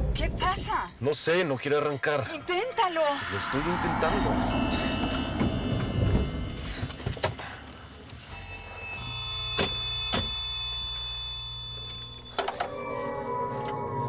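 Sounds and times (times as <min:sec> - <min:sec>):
droning suspense music: 0:02.2 - 0:14.0.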